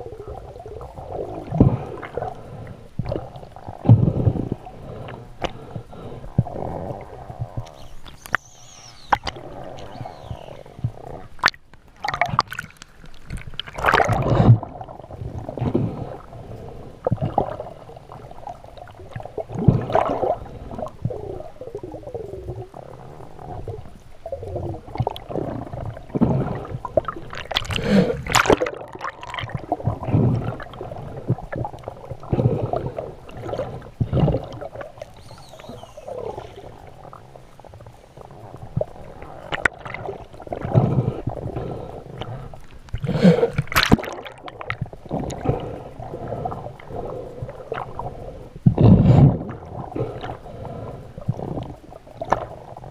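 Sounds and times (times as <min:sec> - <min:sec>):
water gurgling underwater: 0:00.0 - 0:52.9.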